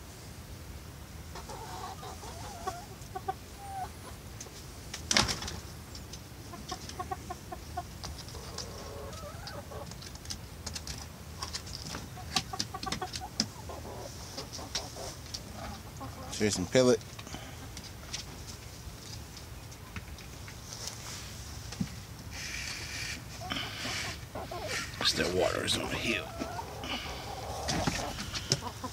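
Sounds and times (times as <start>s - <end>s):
hens clucking: 1.3s - 21.1s, 22.1s - 28.9s.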